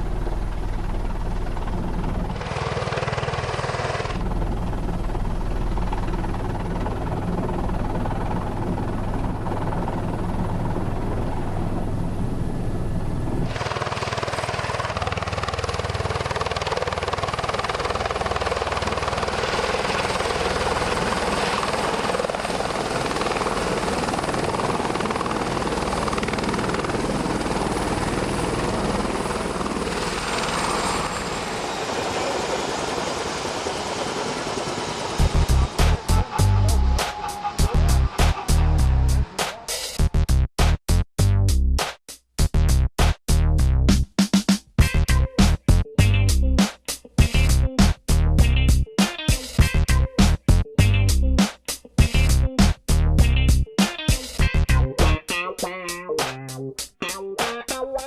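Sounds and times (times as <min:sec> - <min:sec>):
helicopter running: 0:00.0 - 0:40.2, 0:47.1 - 0:56.2.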